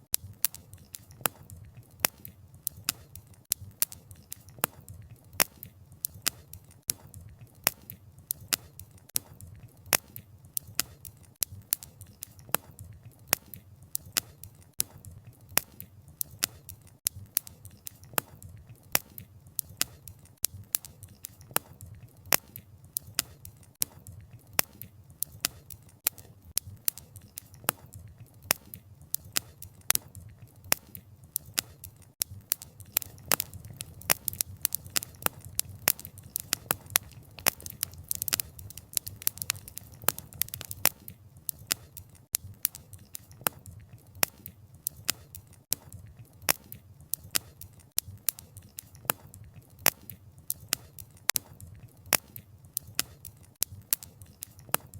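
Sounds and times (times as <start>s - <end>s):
firewood snapping and popping: 0.1s - 54.9s
low rumble of flames: 0.2s - 54.9s.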